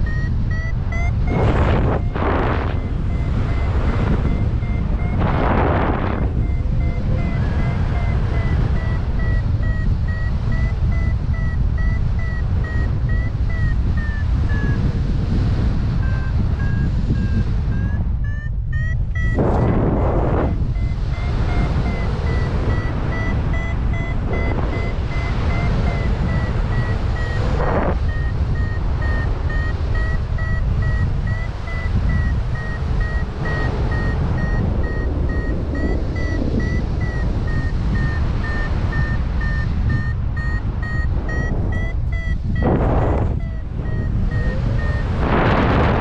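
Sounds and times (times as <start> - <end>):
high-pitched variometer beeping: 0.0 - 46.0
wind buffeting microphone: 0.0 - 46.0.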